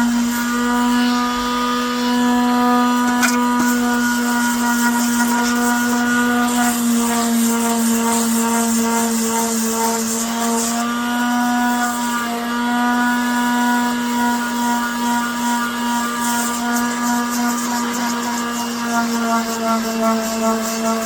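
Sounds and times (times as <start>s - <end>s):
electric palm sander humming: 0.0s - 21.0s
sanding hiss: 0.0s - 21.0s.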